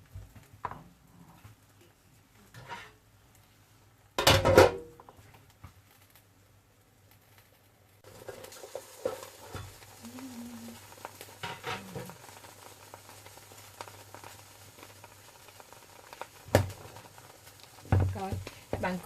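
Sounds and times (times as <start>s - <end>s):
batter sizzling in hot oil: 2.4s - 19.0s.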